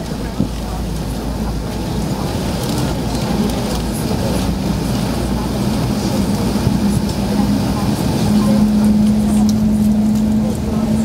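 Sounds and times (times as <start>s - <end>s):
jet engines humming at low power: 0.0s - 11.0s
rush of air in aircraft cabin: 0.0s - 11.0s.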